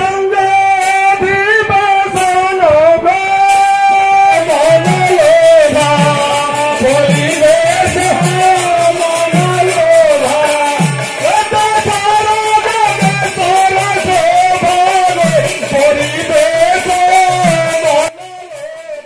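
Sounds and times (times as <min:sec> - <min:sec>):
drum beating: 0:00.0 - 0:19.0
instrumental accompaniment: 0:00.0 - 0:19.0
person singing long sliding notes: 0:00.0 - 0:19.0.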